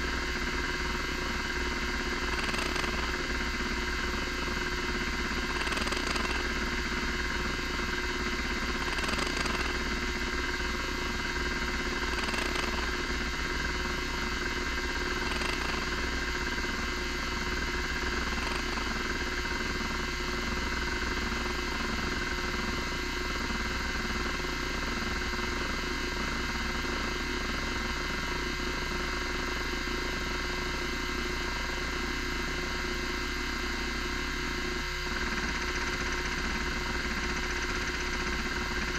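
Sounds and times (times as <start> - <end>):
hard drive spindle whine: 0.0 - 38.9.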